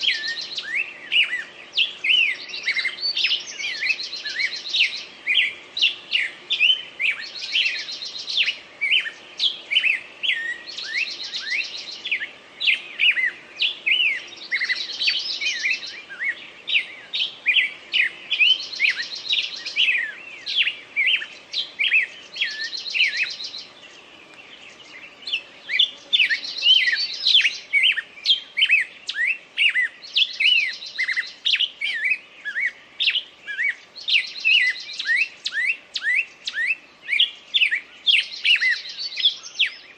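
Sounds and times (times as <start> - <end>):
buzzy bird song phrase: 0.0 - 39.9
songbirds chirping: 0.0 - 39.9.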